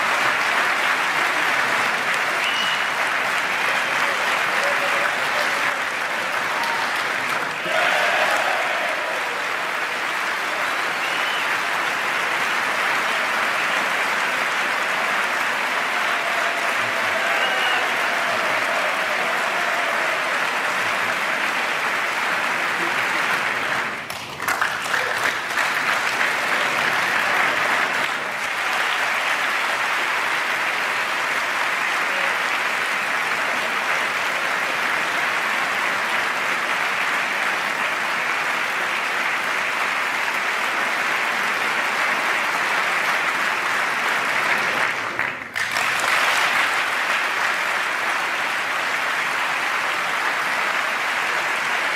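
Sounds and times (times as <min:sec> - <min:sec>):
crowd applause: 0:00.0 - 0:51.9.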